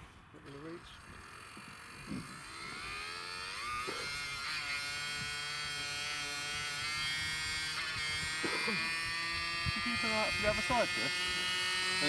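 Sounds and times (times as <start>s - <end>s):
electric fuel pump whining: 0.0s - 12.0s.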